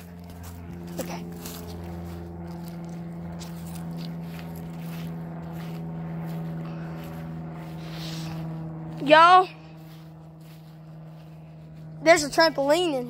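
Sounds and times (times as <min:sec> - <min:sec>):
soft footsteps: 0:00.0 - 0:12.8
machine hum: 0:00.0 - 0:13.0.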